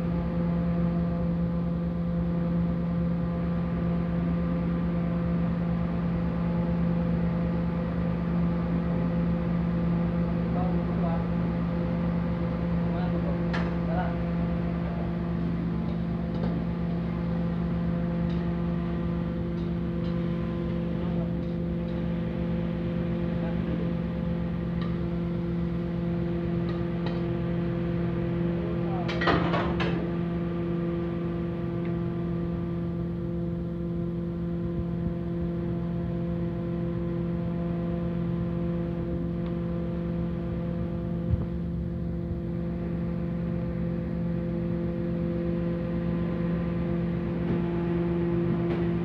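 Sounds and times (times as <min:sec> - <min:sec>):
gas burner and fan drone: 0:00.0 - 0:49.0
kitchen equipment humming: 0:07.8 - 0:49.0.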